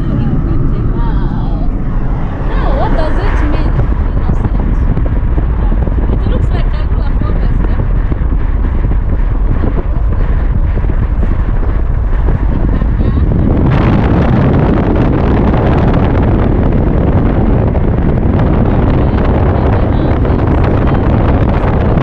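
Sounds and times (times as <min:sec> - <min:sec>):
car road noise: 0:00.0 - 0:22.0
wind buffeting microphone: 0:00.0 - 0:22.0.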